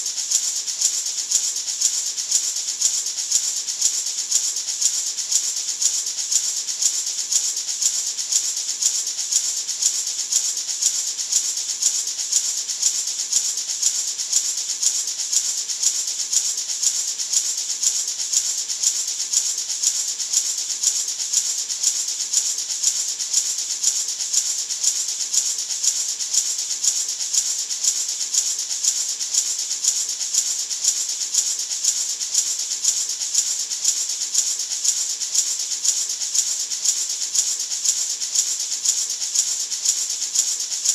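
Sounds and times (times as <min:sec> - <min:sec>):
maraca rattling: 0:00.0 - 0:40.9.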